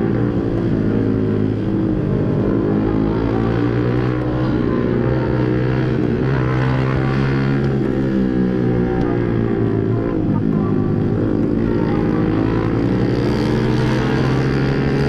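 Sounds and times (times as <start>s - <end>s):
motorcycle engine at speed: 0.0s - 15.0s
road and wind noise: 0.0s - 15.0s.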